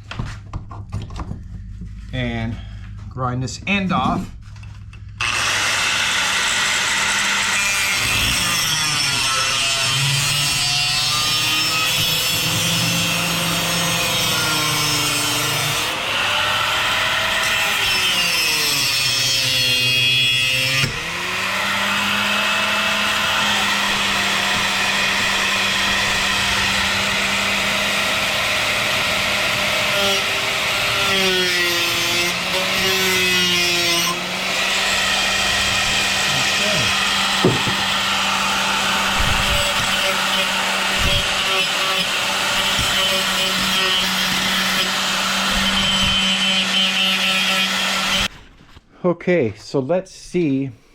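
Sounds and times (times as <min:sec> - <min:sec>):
angle grinder grinding metal pipe: 0:05.2 - 0:48.3.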